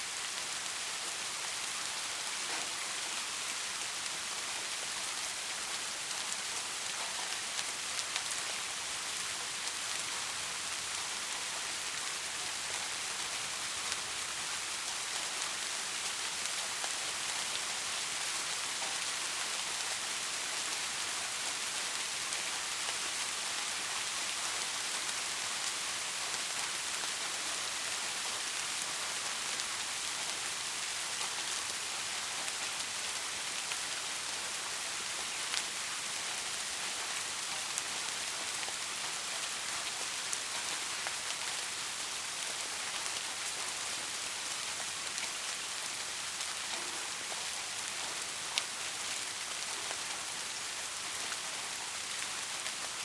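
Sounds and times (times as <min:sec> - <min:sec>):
rain falling on hard surfaces: 0:00.0 - 0:53.0.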